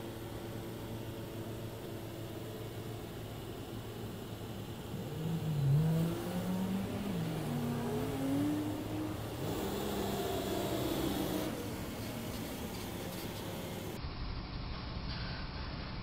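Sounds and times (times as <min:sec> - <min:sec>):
truck engine accelerating: 0:00.0 - 0:14.0
traffic hum: 0:00.0 - 0:16.0.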